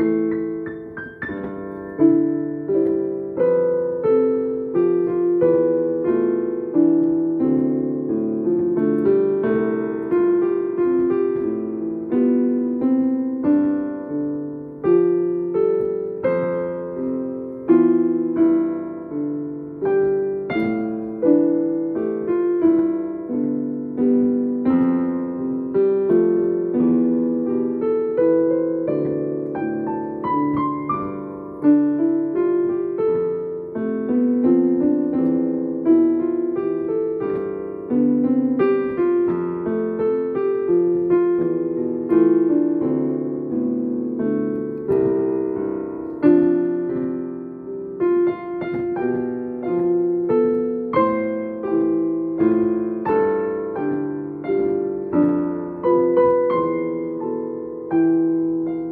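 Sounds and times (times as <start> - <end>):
electronic keyboard piano notes: 0.0 - 58.9.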